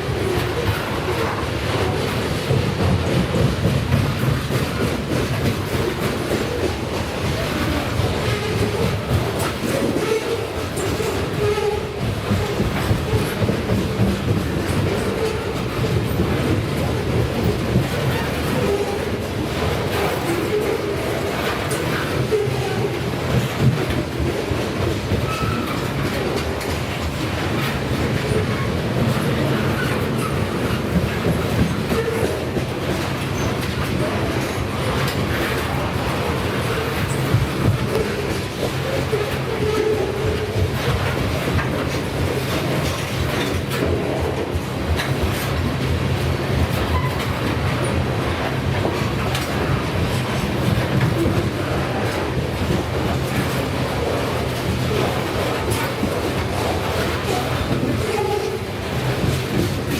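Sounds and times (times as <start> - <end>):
freight train cars rolling: 0.0 - 59.9
wheels clicking over rails: 0.0 - 59.9.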